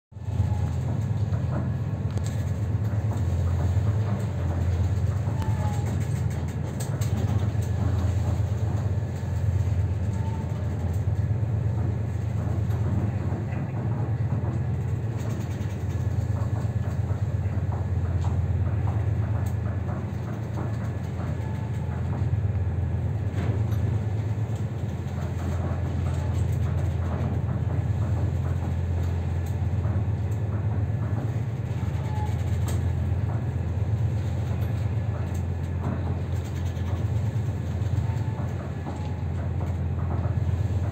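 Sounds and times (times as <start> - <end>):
ship engine drone: 0.1 - 40.9
light rattling and clicking: 0.4 - 40.9.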